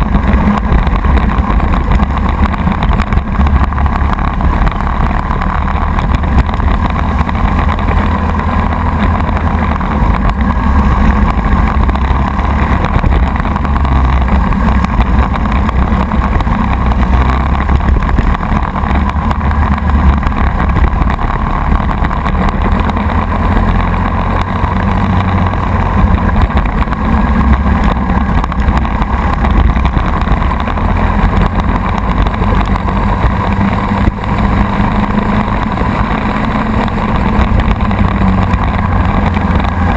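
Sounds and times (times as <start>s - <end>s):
kart engine running loud: 0.0s - 39.9s.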